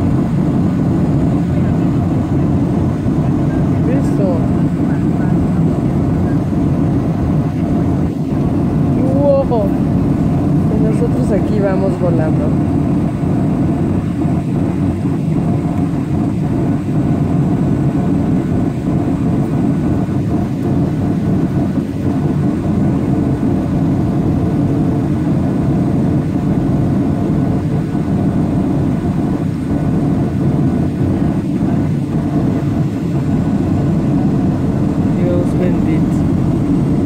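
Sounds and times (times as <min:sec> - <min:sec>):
jet airliner cabin noise: 0:00.0 - 0:37.0.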